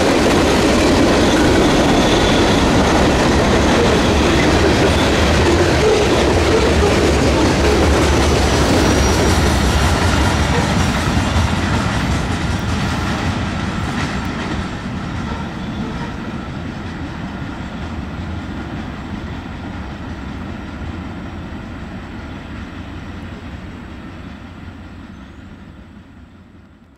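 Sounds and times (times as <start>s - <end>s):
train wheels rolling over rails: 0.0s - 25.0s.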